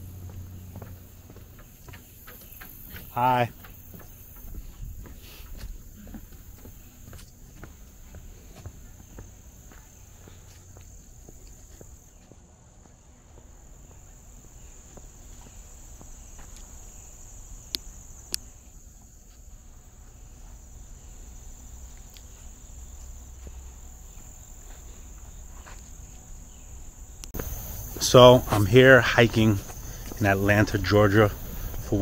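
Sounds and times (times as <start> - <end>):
footsteps on dirt trail: 0.0 - 32.0
insect chorus drone: 0.0 - 32.0.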